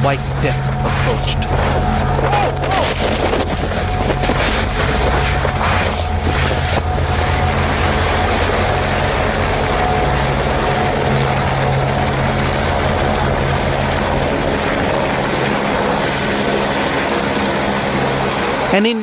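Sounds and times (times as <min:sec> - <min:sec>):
low hum: 0:00.0 - 0:18.9
helicopter running: 0:00.0 - 0:19.0.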